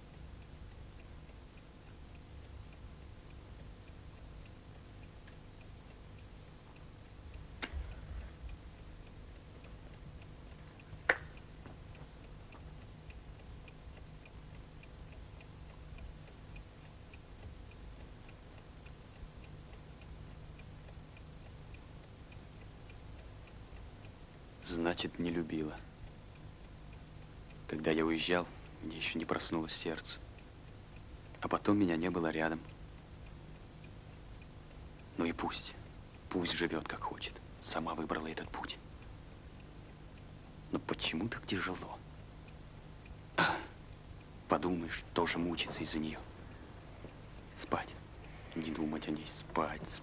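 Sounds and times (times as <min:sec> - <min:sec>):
clock ticking: 0:00.0 - 0:50.0.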